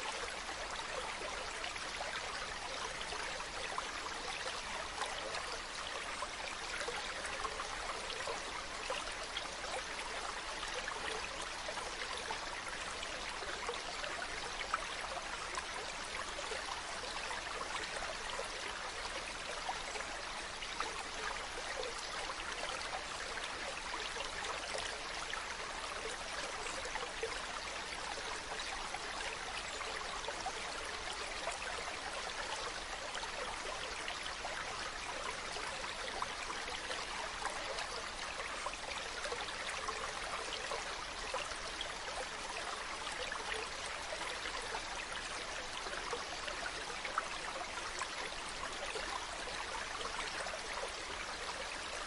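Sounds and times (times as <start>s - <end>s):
stream running over rocks: 0.0s - 52.0s.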